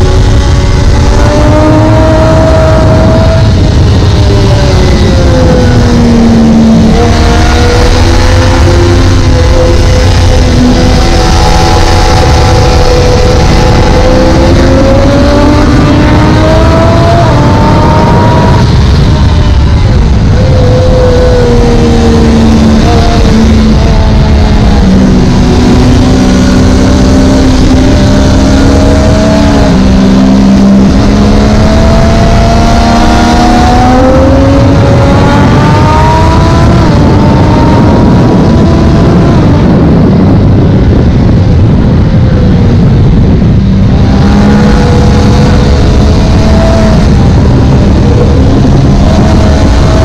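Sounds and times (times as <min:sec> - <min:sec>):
heavy wind noise: 0:00.0 - 0:50.0
motorcycle engine accelerating: 0:00.0 - 0:50.0.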